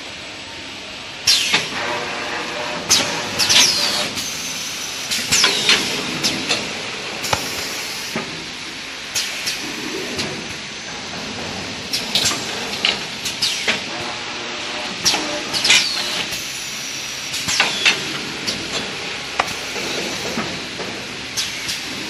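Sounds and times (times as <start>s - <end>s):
packing machine running: 0.9s - 22.0s
pneumatic cylinder hisses and clacks: 2.8s - 8.4s, 9.1s - 14.2s, 14.9s - 22.0s.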